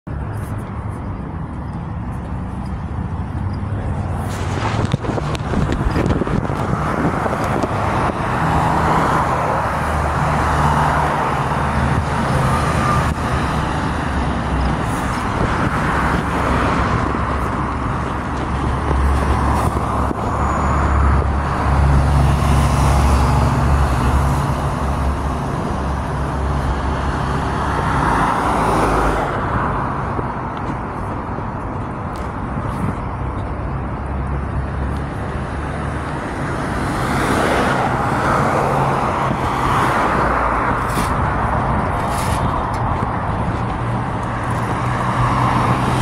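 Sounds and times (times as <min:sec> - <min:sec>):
rumble of car traffic: 0:00.0 - 0:46.0.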